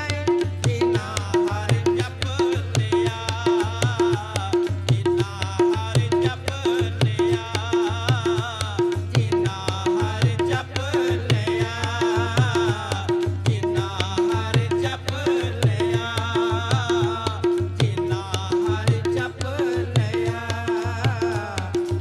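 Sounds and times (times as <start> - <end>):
tabla playing a steady beat: 0.0 - 22.0.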